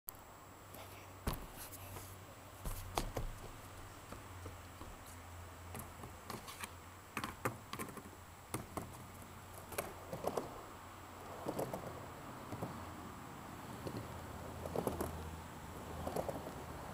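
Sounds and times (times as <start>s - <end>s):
low steady hum: 0.1s - 16.9s.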